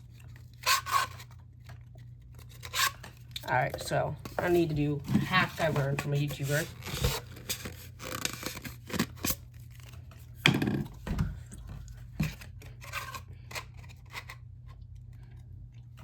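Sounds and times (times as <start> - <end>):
rustling and scraping of parts: 0.0 - 14.5.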